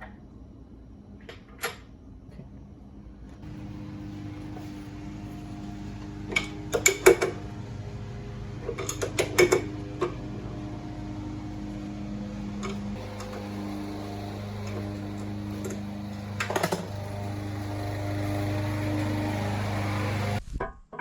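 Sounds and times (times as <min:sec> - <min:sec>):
steady mechanical hum: 0:00.0 - 0:20.4.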